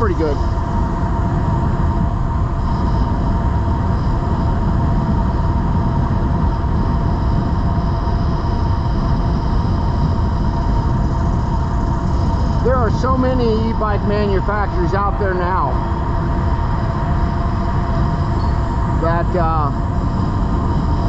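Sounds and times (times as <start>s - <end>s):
electric motor whine: 0.0s - 21.0s
wind rushing over microphone: 0.0s - 21.0s.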